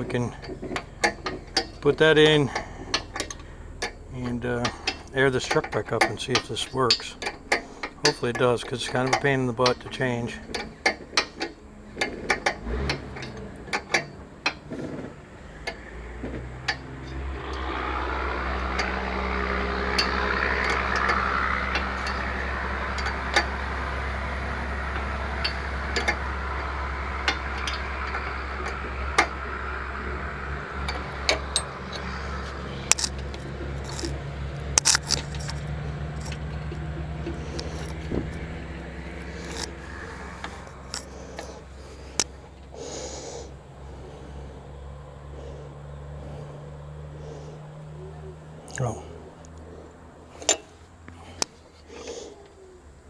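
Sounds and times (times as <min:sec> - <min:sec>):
metal clinks and scrapes: 0:00.0 - 0:42.6, 0:50.3 - 0:52.4
steady low hum: 0:00.0 - 0:53.0.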